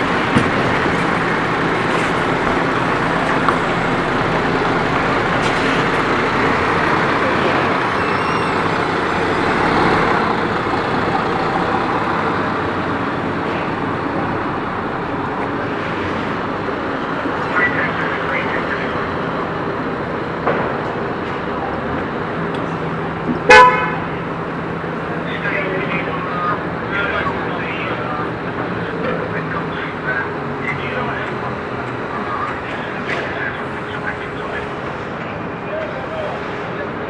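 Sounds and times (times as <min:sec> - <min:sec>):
heavy vehicle engine running: 0:00.0 - 0:37.0
street traffic: 0:00.0 - 0:37.0.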